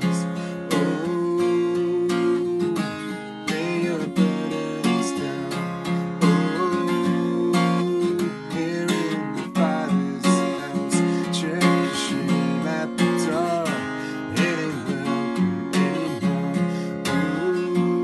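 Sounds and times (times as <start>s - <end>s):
man singing: 0.0s - 18.0s
strummed acoustic guitar: 0.0s - 18.0s.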